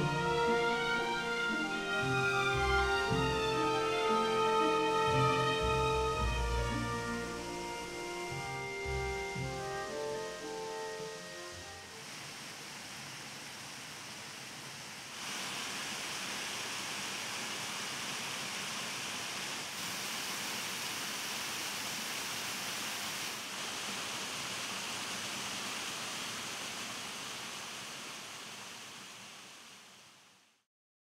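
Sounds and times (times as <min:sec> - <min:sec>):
rushing stream water: 0:00.0 - 0:30.5.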